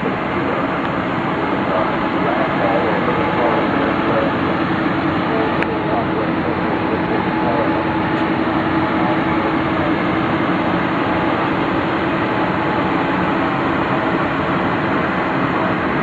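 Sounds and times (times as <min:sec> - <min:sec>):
generators droning: 0:00.0 - 0:16.0.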